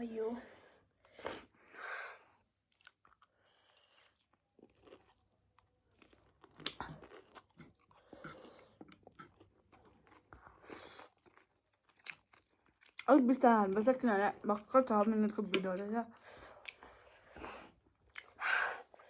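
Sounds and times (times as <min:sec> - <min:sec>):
close-up chewing noodles: 0:02.2 - 0:19.0.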